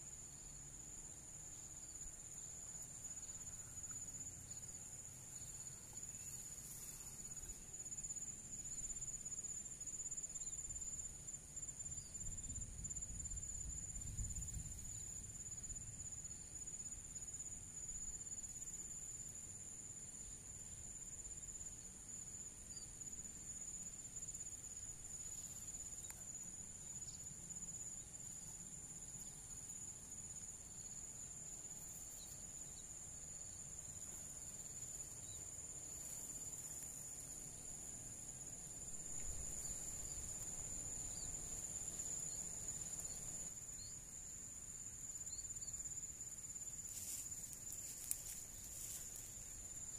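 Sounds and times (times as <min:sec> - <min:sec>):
insects trilling: 0:00.0 - 0:49.9.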